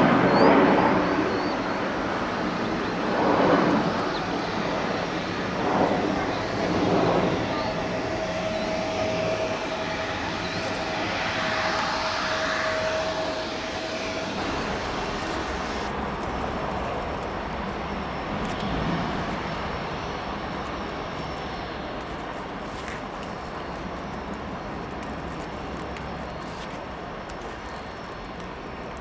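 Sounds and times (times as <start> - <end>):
jet airliner engines running: 0.0 - 29.0.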